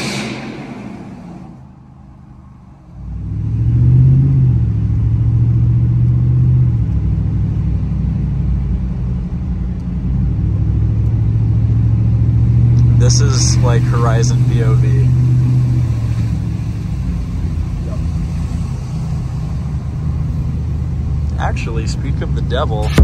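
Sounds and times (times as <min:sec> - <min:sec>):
engine droning inside cab: 0:00.0 - 0:23.0.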